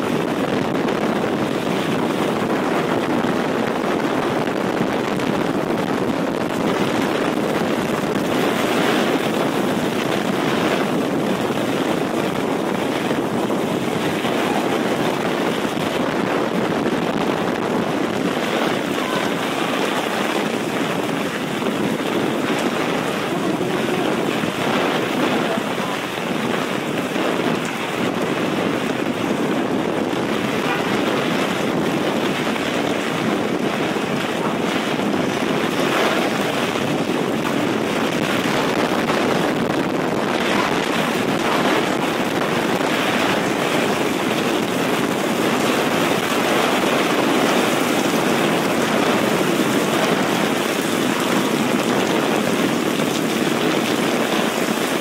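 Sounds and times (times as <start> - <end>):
heavy rain on street: 0.0 - 55.0.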